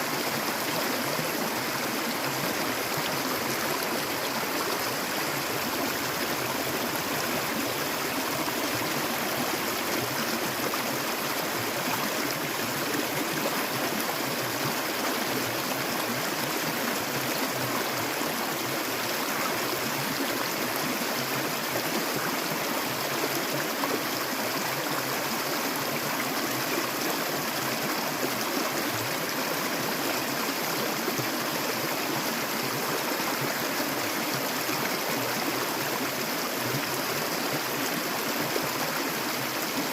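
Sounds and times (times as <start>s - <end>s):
stream water flowing and gurgling: 0.0s - 39.9s.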